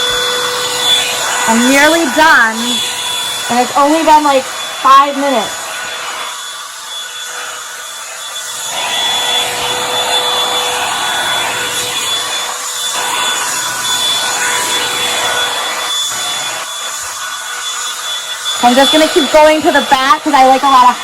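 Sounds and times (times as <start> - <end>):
hair dryer air rush: 0.0 - 21.0
thin motor whine: 0.0 - 21.0.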